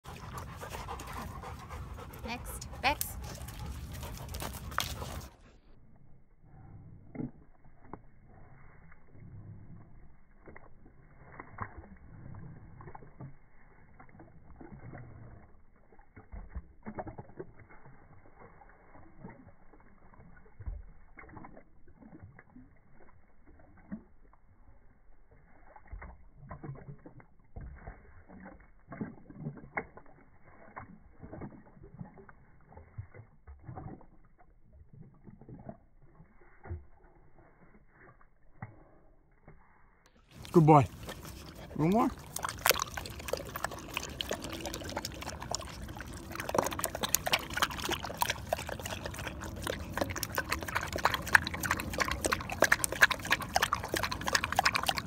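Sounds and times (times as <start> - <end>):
dog lapping water: 0.0 - 55.0.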